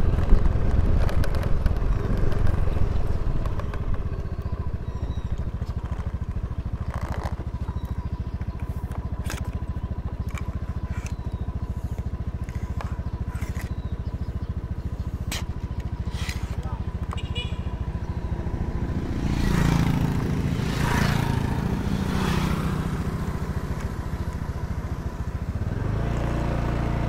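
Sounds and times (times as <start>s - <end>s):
motor scooter engine running: 0.0s - 27.0s.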